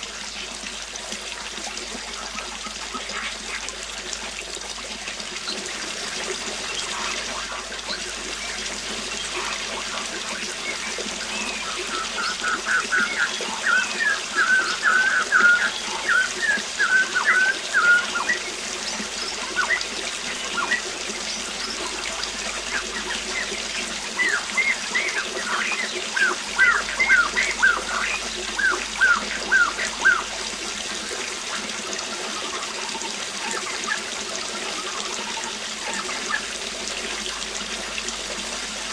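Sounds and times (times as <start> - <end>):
waterfall rushing: 5.7 - 38.9.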